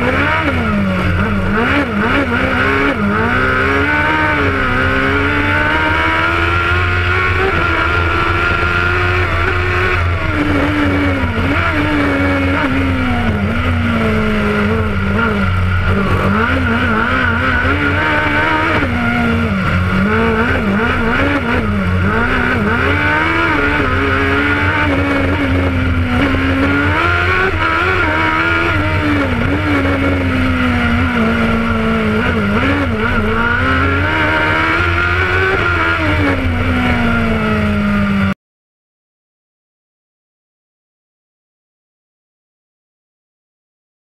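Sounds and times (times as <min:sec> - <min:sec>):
race car engine accelerating: 0:00.0 - 0:38.4.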